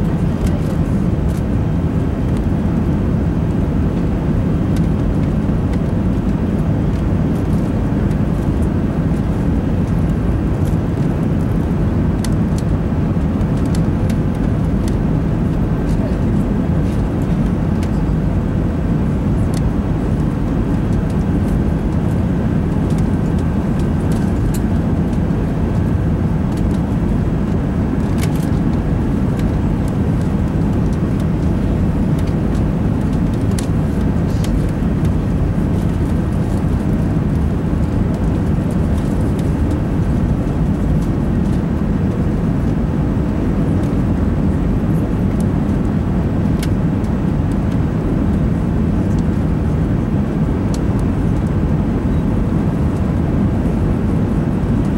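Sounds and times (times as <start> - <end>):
faint steady whine: 0.0 - 54.9
jet engines rumbling in cabin: 0.0 - 54.9.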